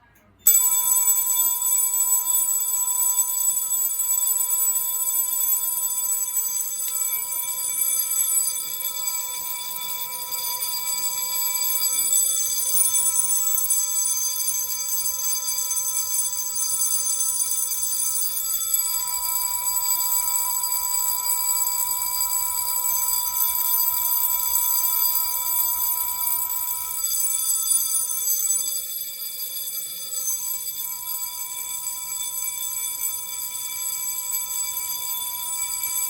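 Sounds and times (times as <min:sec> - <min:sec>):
fire alarm bell ringing: 0:00.1 - 0:36.0.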